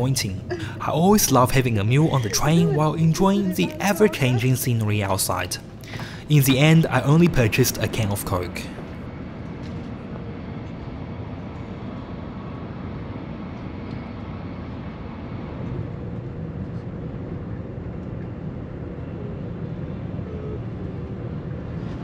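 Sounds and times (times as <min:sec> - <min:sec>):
train carriage rumble and rushing: 0:00.0 - 0:22.0.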